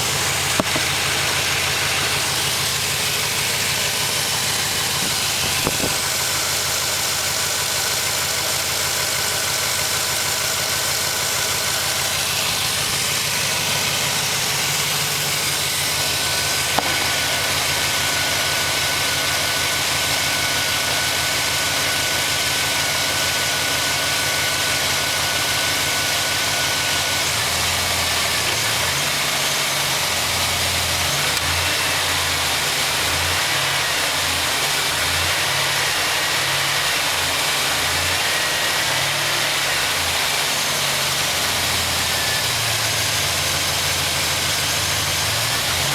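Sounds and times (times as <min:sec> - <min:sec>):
car engine idling with piston slap: 0:00.0 - 0:45.9.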